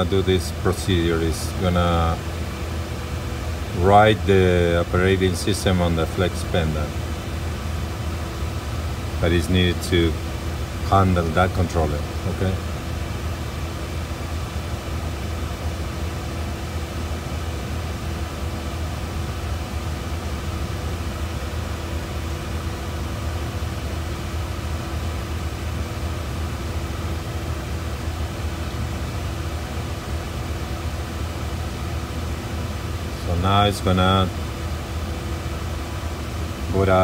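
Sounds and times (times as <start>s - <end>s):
low machinery hum: 0.0s - 37.0s.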